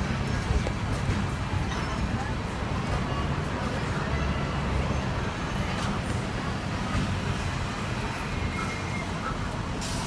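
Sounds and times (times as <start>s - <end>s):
street traffic: 0.0s - 10.0s
tram motors and wheels rumbling: 0.0s - 10.0s.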